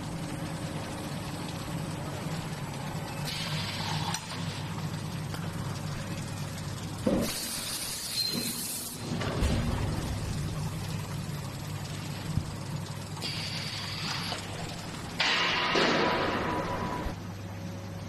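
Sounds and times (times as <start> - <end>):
machinery hum: 0.0 - 18.0.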